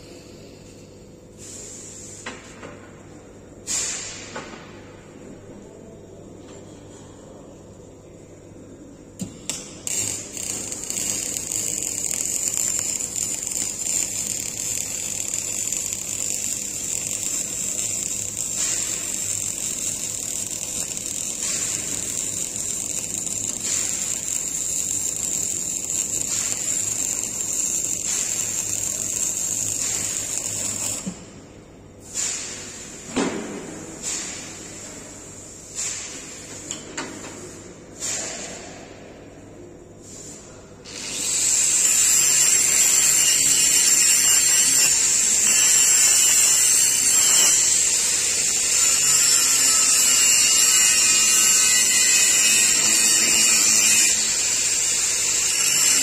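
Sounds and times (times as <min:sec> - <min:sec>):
welding arc crackling hiss: 0:01.4 - 0:02.6, 0:03.7 - 0:04.8, 0:09.2 - 0:31.4, 0:32.0 - 0:38.6, 0:40.0 - 0:56.0.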